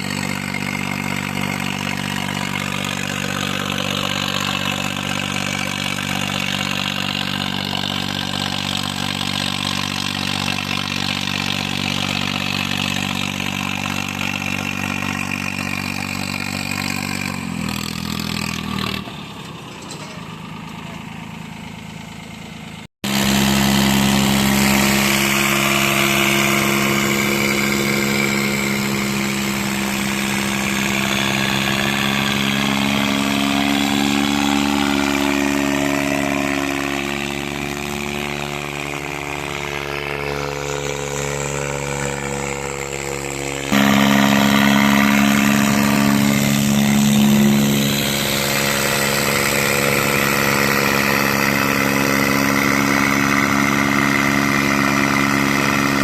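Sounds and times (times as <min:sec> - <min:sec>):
diesel tractor engines running: 0:00.0 - 0:56.0.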